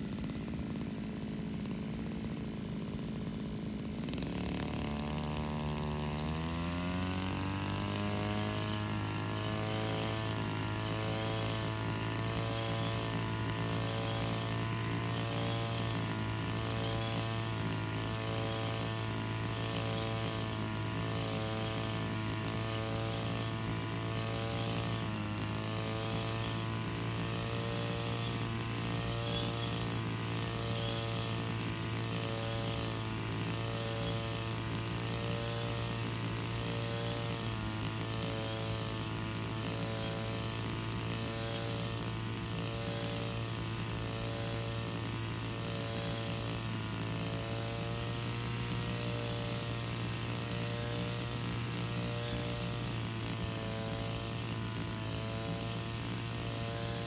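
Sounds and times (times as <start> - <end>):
brush cutter cutting grass: 0.0 - 57.0.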